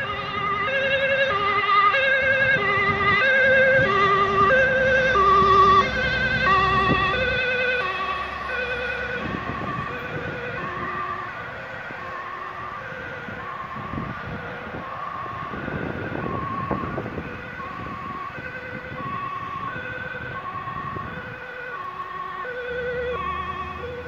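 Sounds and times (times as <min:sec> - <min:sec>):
ambulance two-tone siren: 0:00.0 - 0:24.0
tyre and engine noise: 0:00.0 - 0:24.0.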